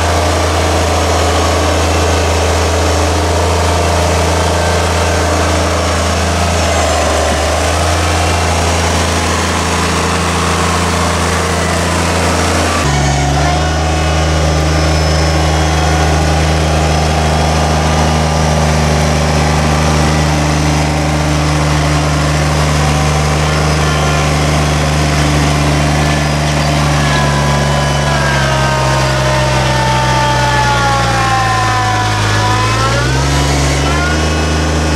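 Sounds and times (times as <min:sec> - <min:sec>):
tractor diesel engine running: 0:00.0 - 0:34.9
whine shifting in pitch: 0:00.0 - 0:34.9.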